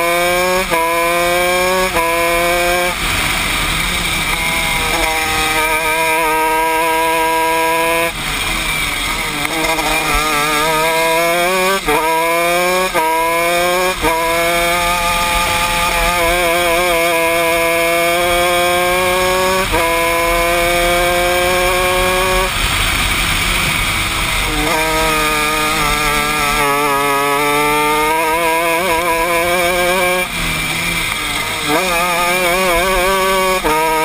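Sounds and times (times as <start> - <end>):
kart engine revving: 0.0 - 34.0.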